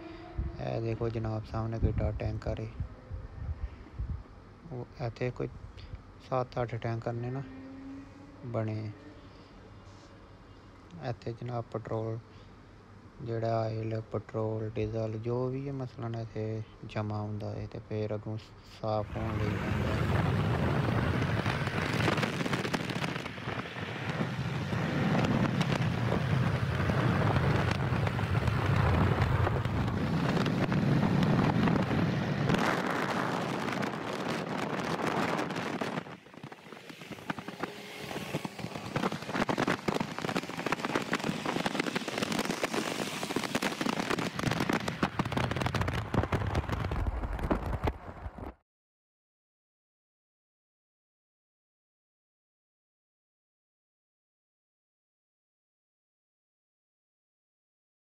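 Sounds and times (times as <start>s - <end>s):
wind and road noise: 0.0s - 48.6s.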